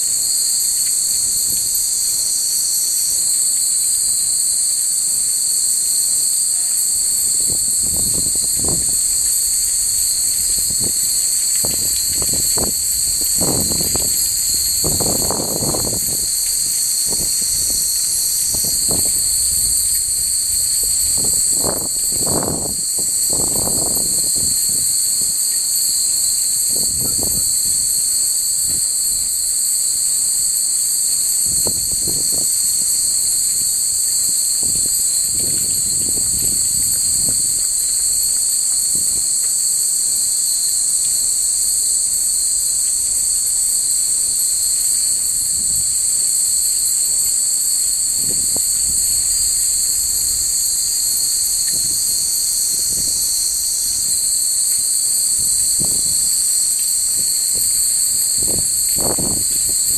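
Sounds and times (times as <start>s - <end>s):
insects chirping chorus: 0.0s - 59.9s.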